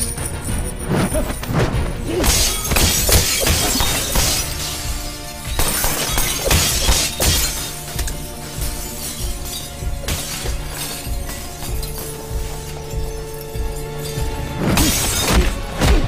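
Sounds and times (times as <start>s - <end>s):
dramatic film music: 0.0s - 16.0s
sharp hits: 0.0s - 16.0s
glass window panes shattering: 2.2s - 15.9s.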